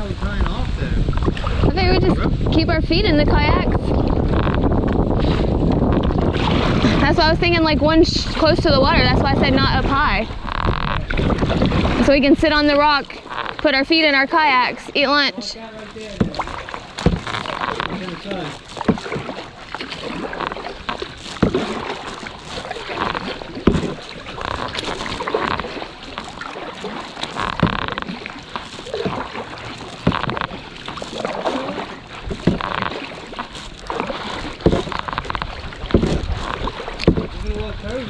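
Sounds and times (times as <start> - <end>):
kayak paddle splashing: 0.0 - 38.0.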